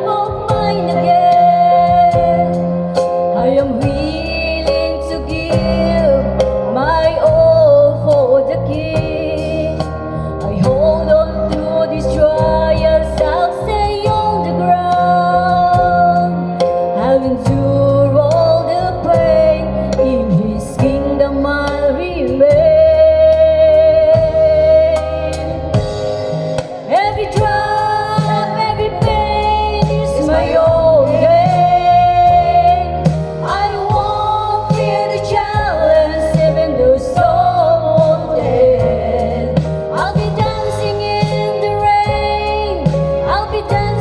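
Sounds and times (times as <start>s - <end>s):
woman singing: 0.0s - 26.0s, 26.8s - 44.0s
steady bass: 0.0s - 44.0s.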